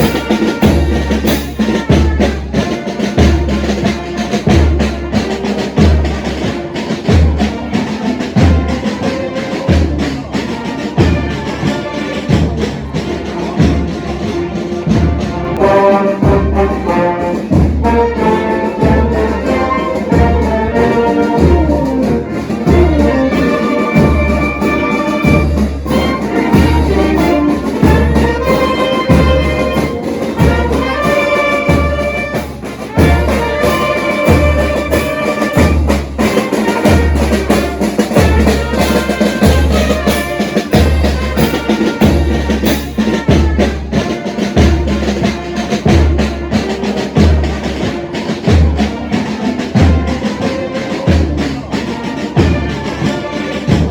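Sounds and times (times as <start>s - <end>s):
trumpets and trombones: 0.0s - 53.9s.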